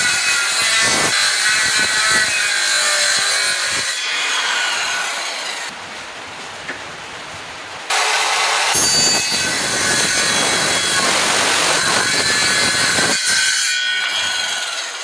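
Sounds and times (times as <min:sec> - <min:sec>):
circular saw cutting wood: 0:00.0 - 0:05.7, 0:07.9 - 0:15.0.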